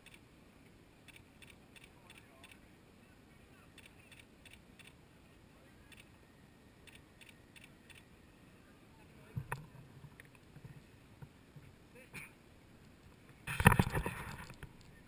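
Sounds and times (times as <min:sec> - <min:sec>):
faint low hiss: 0:00.0 - 0:15.0.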